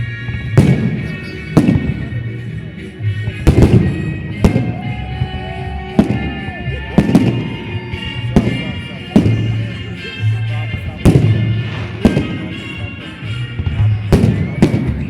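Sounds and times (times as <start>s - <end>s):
music: 0.0s - 15.0s
fireworks bangs with echo: 0.2s - 15.0s.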